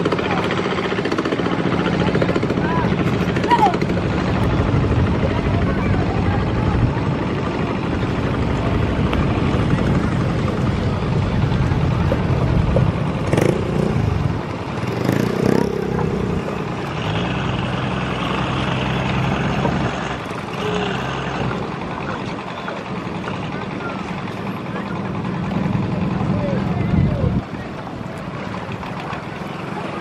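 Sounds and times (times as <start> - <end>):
low engine rumble: 0.0 - 30.0.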